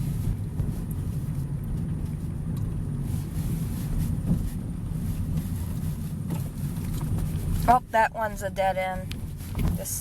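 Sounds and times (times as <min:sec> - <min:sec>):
car interior engine and road rumble: 0:00.0 - 0:10.0.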